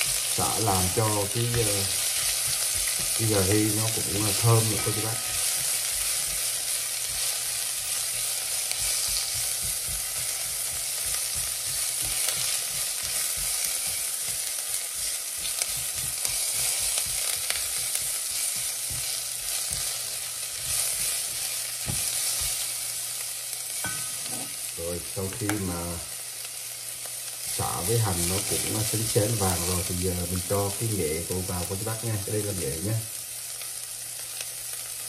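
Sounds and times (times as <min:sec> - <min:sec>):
food sizzling in hot oil: 0:00.0 - 0:35.0.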